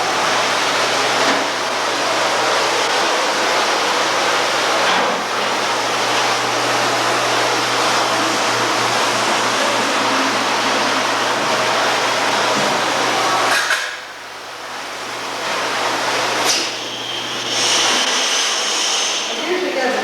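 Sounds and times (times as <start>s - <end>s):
hot water rushing through pipeline: 0.0s - 20.0s
vacuum pump humming: 0.0s - 20.0s.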